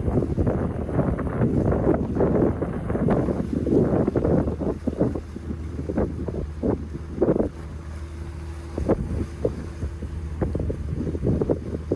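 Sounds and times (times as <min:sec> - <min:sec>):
boat engine drone: 0:00.0 - 0:11.9
wind buffeting microphone: 0:00.0 - 0:11.9.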